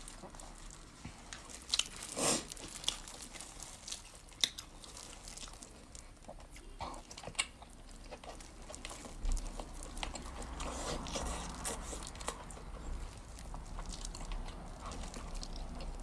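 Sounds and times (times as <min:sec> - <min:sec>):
chewing with wet mouth clicks: 0:00.0 - 0:16.0.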